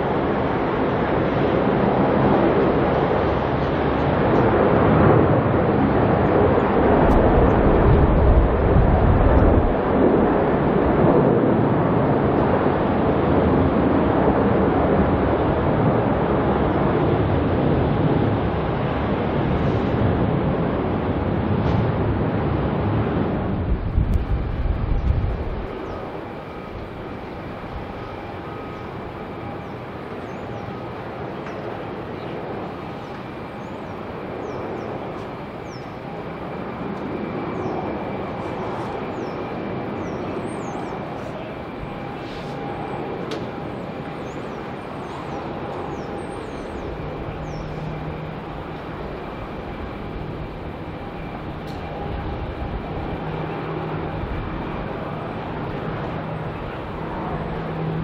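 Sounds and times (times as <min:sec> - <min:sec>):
jet engines roaring on takeoff: 0:00.0 - 0:58.0.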